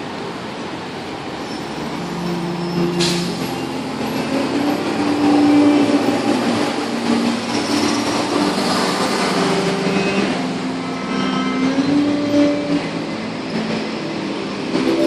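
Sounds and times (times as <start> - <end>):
street traffic engines: 0.0 - 15.0.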